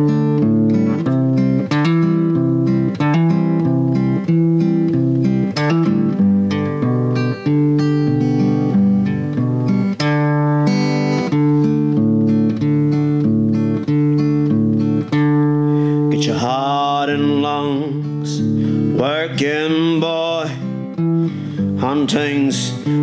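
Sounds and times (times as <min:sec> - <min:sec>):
acoustic guitar chords: 0:00.0 - 0:23.0.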